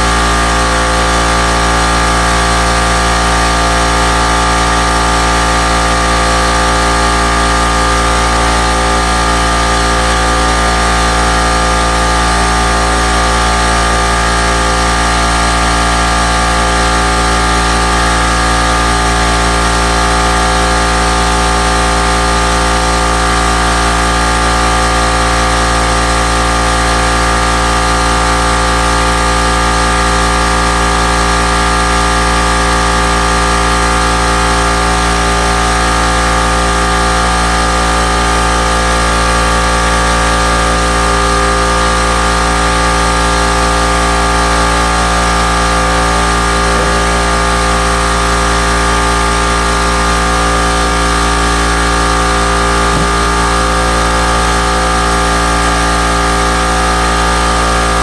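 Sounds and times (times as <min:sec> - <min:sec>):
air compressor motor droning: 0:00.0 - 0:58.0.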